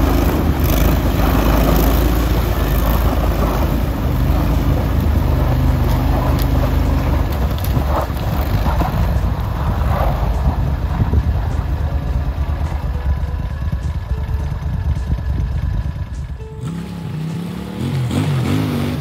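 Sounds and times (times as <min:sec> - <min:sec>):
tracked vehicle engine under load: 0:00.0 - 0:19.0.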